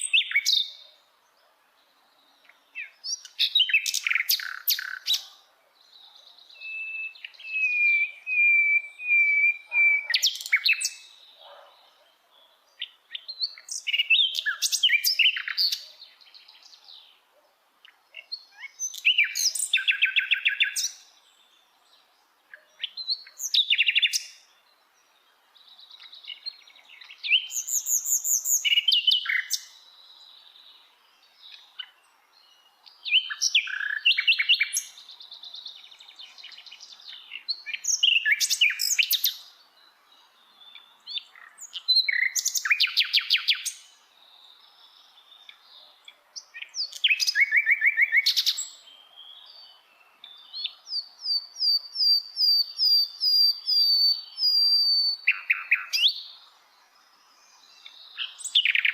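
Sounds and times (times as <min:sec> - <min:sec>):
nightingale singing: 0:00.0 - 0:58.9.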